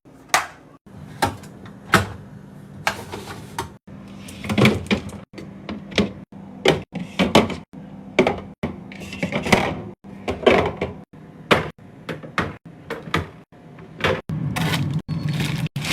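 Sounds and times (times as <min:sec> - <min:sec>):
refrigerator parts knocking and scraping: 0:00.2 - 0:15.9.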